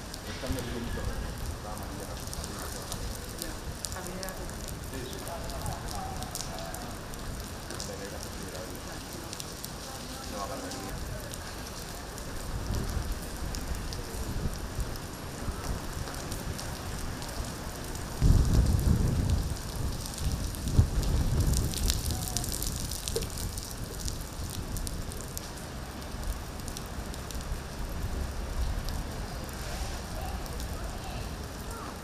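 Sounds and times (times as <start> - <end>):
rain on hard surfaces: 0.0 - 32.0.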